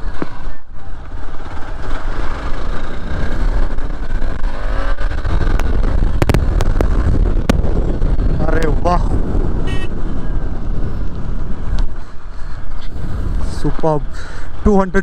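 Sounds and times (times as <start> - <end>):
motorcycle engine running: 0.0 - 13.6
wind rumble on microphone: 0.0 - 15.0.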